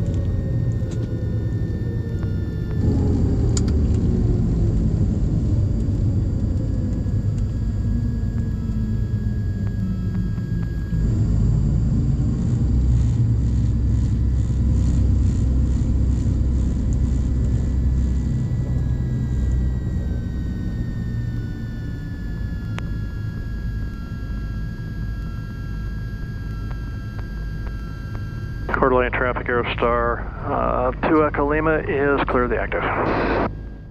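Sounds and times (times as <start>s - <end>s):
rumble of plane engines and wheels: 0.0s - 33.9s
whine falling in pitch: 0.0s - 33.9s.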